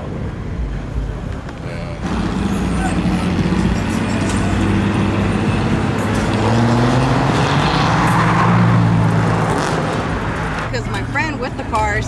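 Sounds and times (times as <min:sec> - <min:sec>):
street traffic: 0:00.0 - 0:12.0
car engine speeding up: 0:01.6 - 0:11.3.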